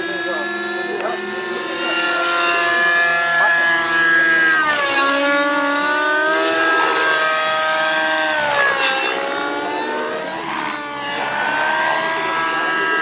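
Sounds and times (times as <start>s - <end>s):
model helicopter motor whine: 0.0s - 13.0s.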